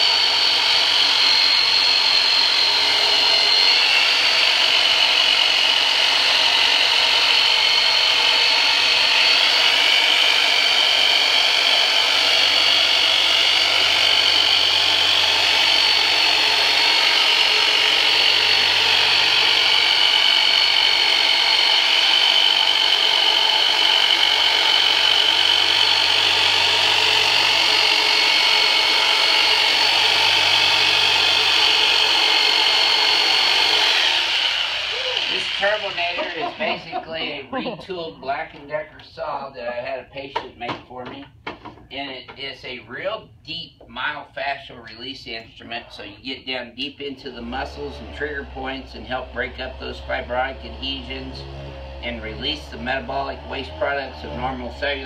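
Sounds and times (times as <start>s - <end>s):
electric saw motor whine: 0.0s - 38.1s, 47.2s - 55.0s
low buzz: 0.0s - 38.1s, 47.2s - 55.0s.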